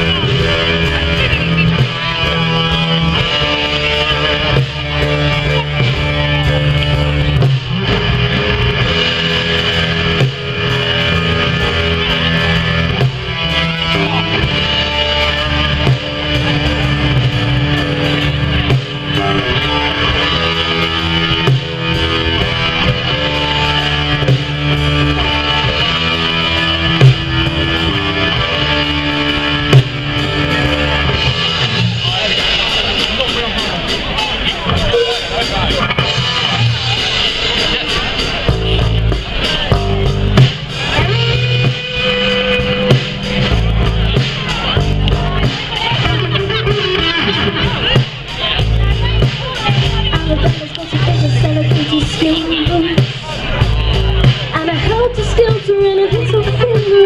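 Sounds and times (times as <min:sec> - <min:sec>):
electric guitar: 0:00.0 - 0:57.0
rock band playing: 0:00.0 - 0:57.0.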